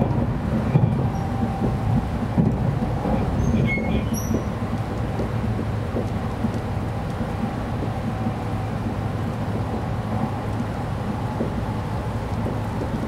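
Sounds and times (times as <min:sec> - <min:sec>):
train running rumble inside car: 0:00.0 - 0:13.0.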